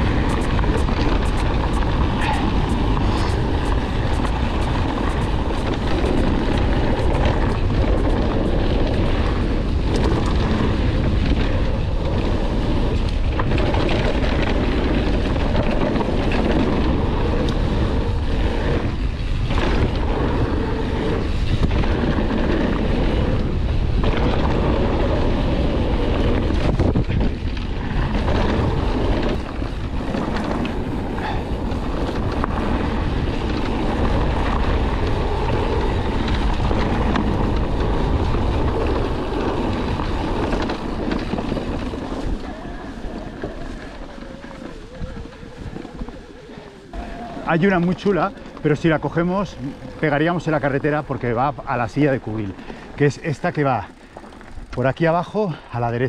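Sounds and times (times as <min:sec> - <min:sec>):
bike rattling over bumps: 0:00.0 - 0:56.0
tyres on dirt trail: 0:00.0 - 0:56.0
wind buffeting microphone: 0:00.0 - 0:56.0.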